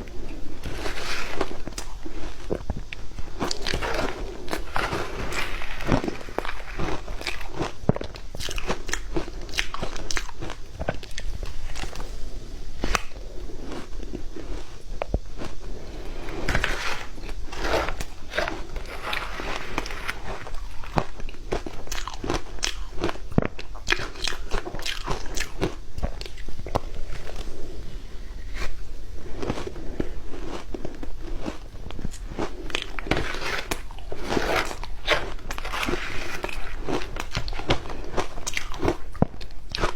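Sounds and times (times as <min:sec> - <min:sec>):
ice crunching between teeth: 0:00.3 - 0:12.1, 0:12.8 - 0:27.5, 0:28.6 - 0:39.9.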